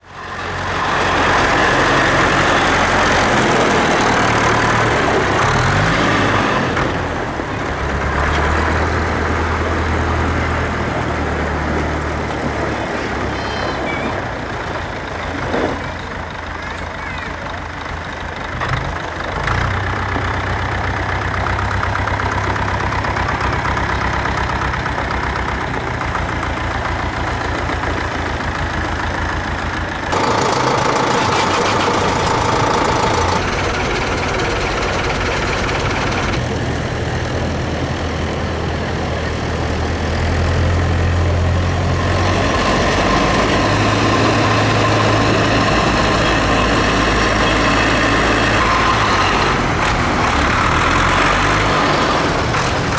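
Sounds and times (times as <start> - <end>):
tractor engines idling: 0.0 - 52.9.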